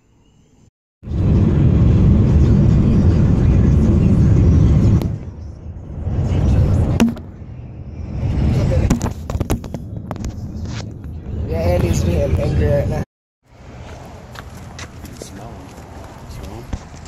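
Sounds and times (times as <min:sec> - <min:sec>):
car wind and road noise: 0:01.0 - 0:17.0.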